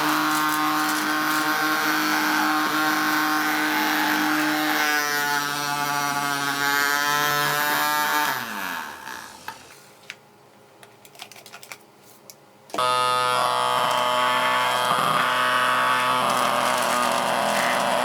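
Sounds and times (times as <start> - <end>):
small motor whining: 0.0 - 9.8, 12.8 - 18.0.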